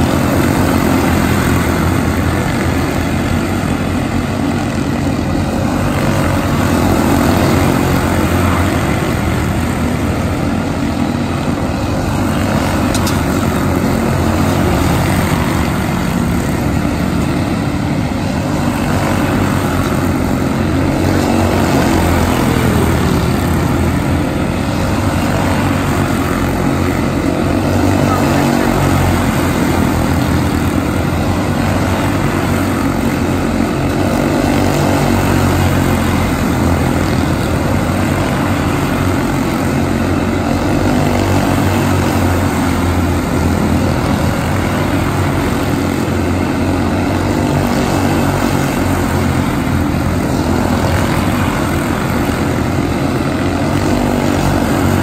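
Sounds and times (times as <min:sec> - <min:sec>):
small race car engines buzzing: 0:00.0 - 0:55.0.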